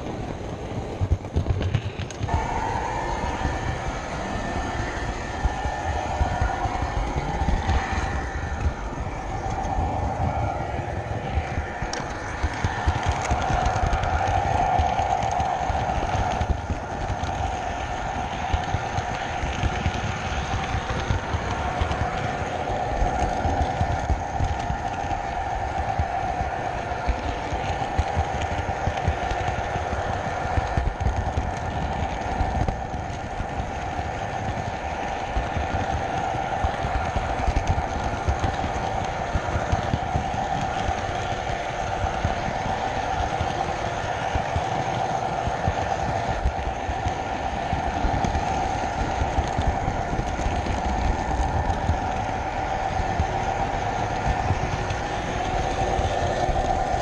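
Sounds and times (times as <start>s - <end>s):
model train motor whine: 0.0s - 57.0s
wheels rumbling on rails: 0.0s - 57.0s.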